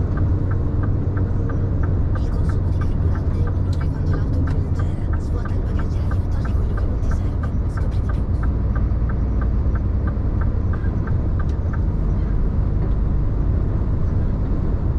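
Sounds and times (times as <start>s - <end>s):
light regular ticking: 0.0s - 13.1s
truck engine rumbling: 0.0s - 14.9s.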